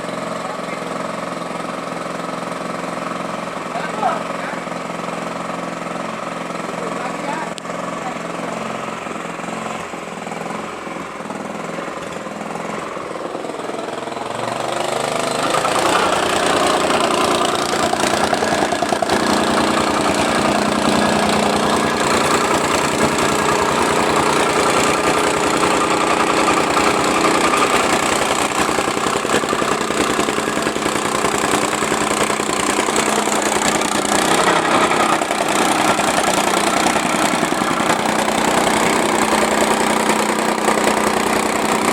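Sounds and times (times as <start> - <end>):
tamping rammer engine pounding: 0.0 - 41.9.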